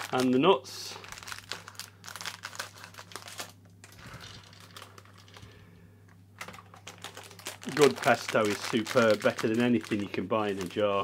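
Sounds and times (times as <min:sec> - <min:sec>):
plastic packet crinkling: 0:00.0 - 0:05.6, 0:06.4 - 0:11.0.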